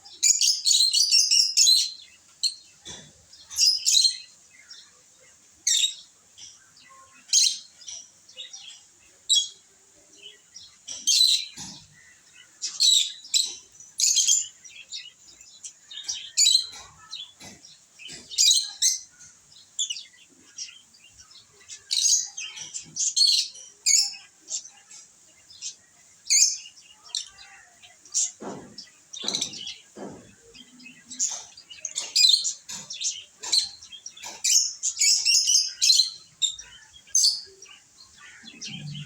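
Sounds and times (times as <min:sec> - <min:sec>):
lovebirds chirping: 0:00.0 - 0:39.0.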